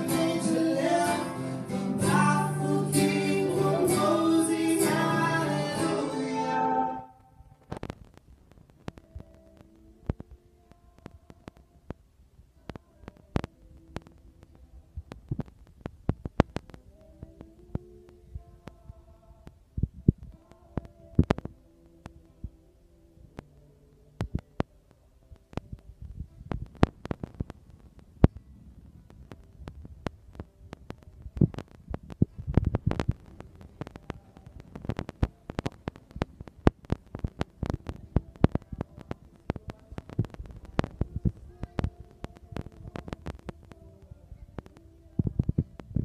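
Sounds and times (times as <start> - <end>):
faint steady tones: 0.0 - 46.0.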